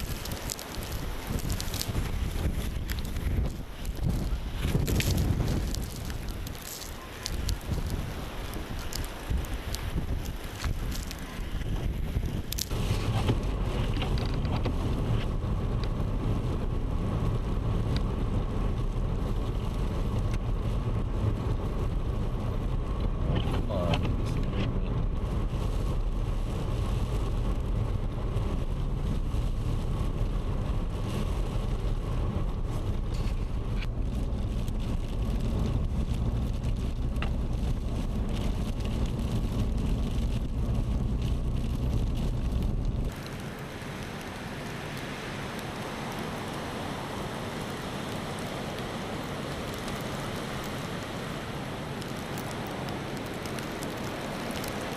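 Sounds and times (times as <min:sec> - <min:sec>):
hiss of wind-blown snow: 0:00.0 - 0:54.9
vehicle driving low rumble: 0:00.0 - 0:54.9.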